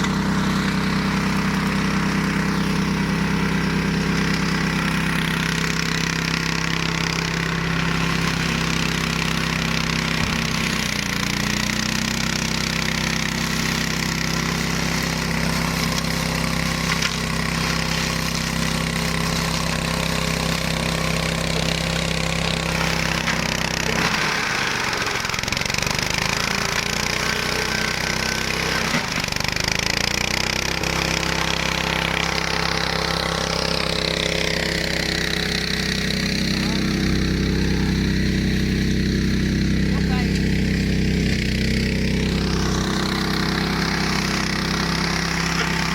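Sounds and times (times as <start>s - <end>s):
mower engine running: 0.0s - 45.9s.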